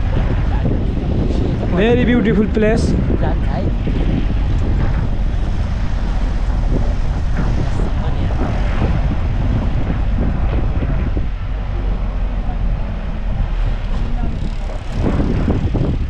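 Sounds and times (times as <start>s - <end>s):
van engine and road noise: 3.0s - 16.0s.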